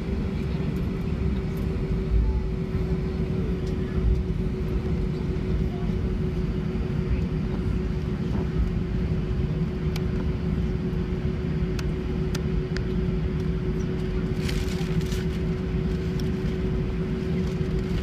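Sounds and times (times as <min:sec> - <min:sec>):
jet engines rumbling in cabin: 0:00.0 - 0:18.0.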